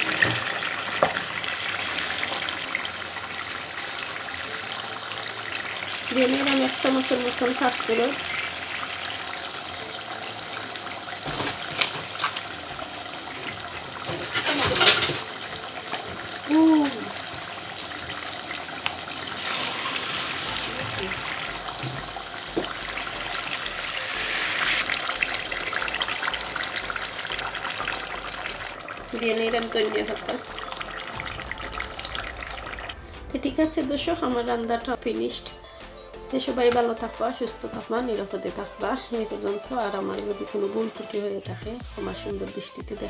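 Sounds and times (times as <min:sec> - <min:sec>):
curry bubbling and sizzling: 0:00.0 - 0:35.2.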